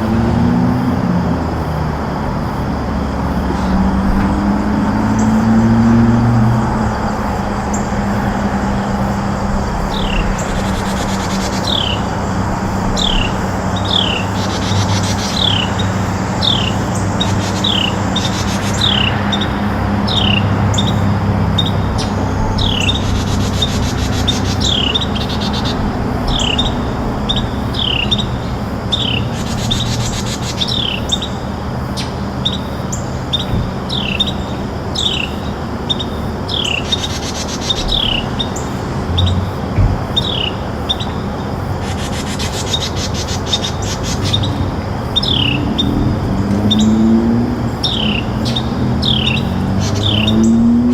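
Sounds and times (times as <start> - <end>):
bird chirping: 3.3 - 50.9.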